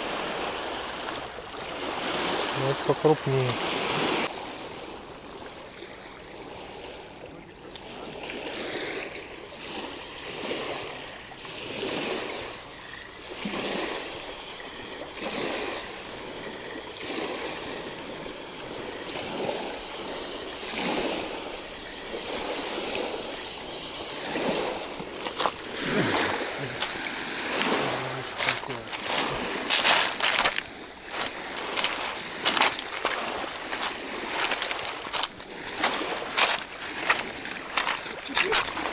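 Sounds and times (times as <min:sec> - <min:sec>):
small waves lapping: 0:00.0 - 0:38.9.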